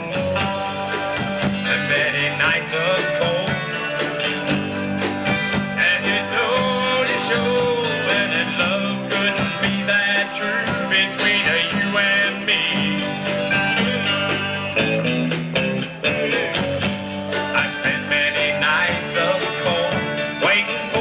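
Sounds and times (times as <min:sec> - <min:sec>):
bass guitar: 0:00.0 - 0:21.0
drum kit: 0:00.0 - 0:21.0
electric guitars: 0:00.0 - 0:21.0.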